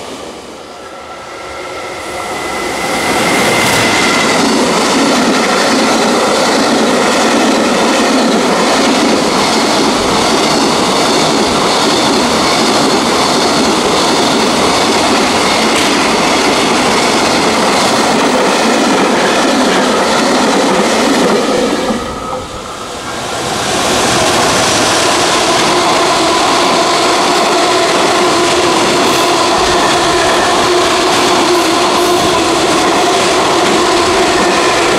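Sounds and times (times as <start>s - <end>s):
freight train rumble: 0.0s - 34.9s.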